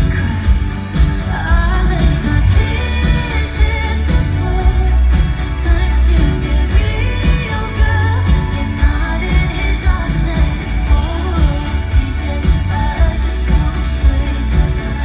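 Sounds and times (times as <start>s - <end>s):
band with heavy bass and drums: 0.0s - 15.0s
woman singing: 0.0s - 15.0s.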